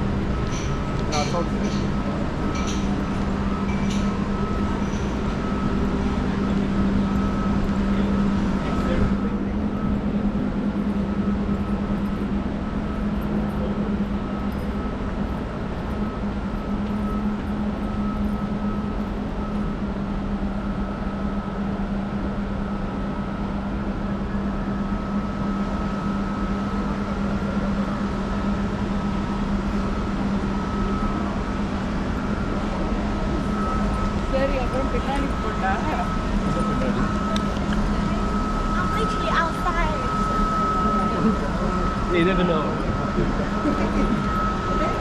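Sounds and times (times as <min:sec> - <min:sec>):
faint high whine: 0:00.0 - 0:45.0
mechanical drone with low hum: 0:00.0 - 0:45.0
noisy background: 0:00.0 - 0:45.0.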